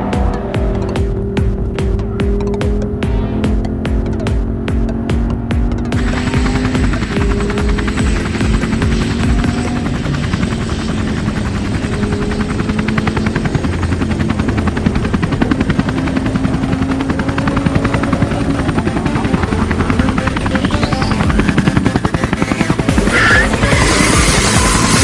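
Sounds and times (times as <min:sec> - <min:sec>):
helicopter engine hum: 0:00.0 - 0:25.0
helicopter rotor blades chopping: 0:00.0 - 0:25.0.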